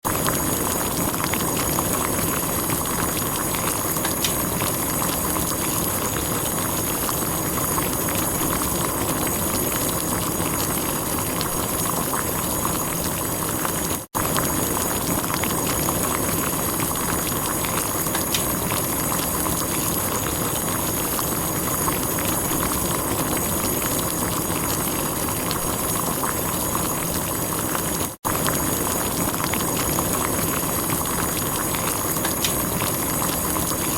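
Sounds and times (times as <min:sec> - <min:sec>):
water boiling: 0:00.0 - 0:33.9.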